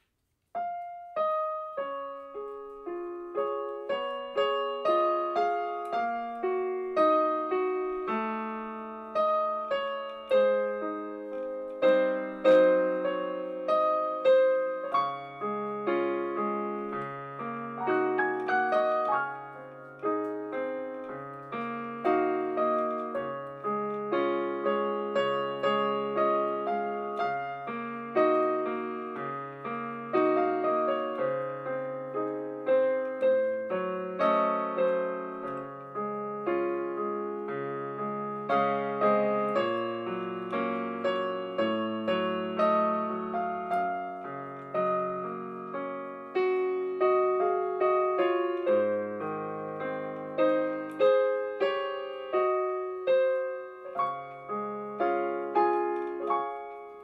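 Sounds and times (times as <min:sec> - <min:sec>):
digital piano playing: 0:00.0 - 0:57.0.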